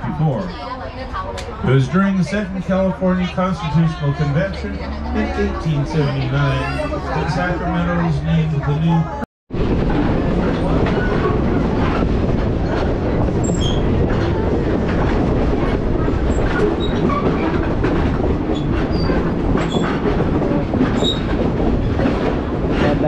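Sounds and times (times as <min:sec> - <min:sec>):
train rumbling on track: 0:00.6 - 0:23.0.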